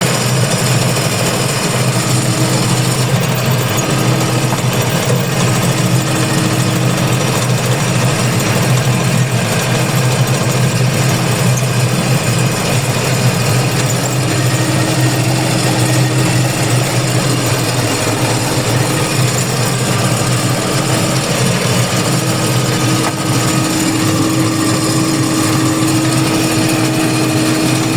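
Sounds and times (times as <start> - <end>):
machinery engine running: 0.0 - 27.9.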